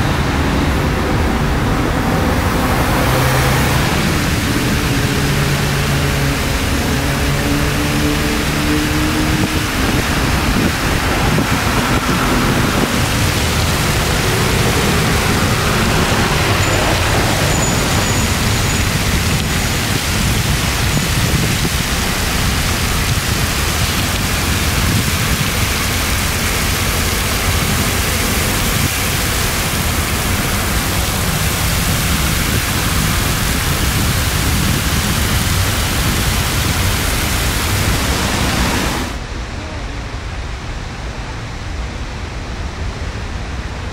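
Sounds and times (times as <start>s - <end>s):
fountain jets splashing: 0.0s - 41.4s
city traffic rumble: 0.0s - 43.9s.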